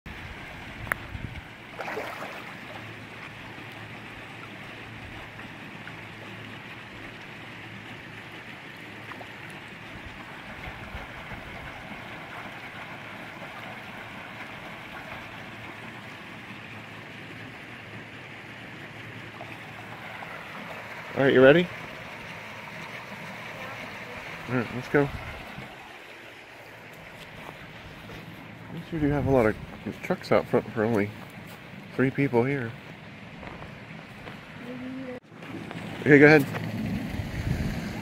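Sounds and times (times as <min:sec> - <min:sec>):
flowing water rushing: 0:00.1 - 0:38.0.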